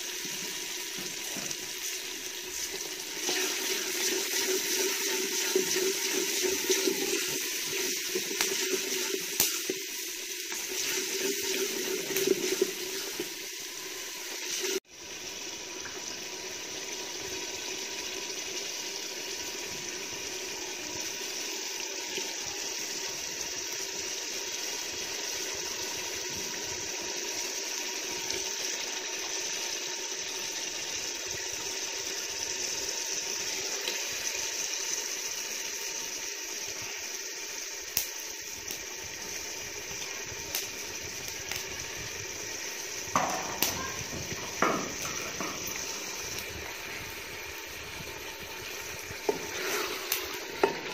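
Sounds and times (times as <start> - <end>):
gravy sizzling and bubbling in pot: 0.0 - 50.9.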